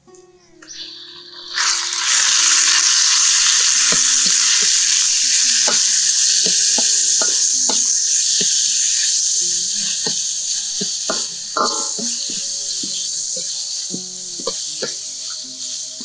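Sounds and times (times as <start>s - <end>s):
fish sizzling in hot oil: 0.6s - 16.0s
spatula tapping and scraping wok: 1.6s - 16.0s.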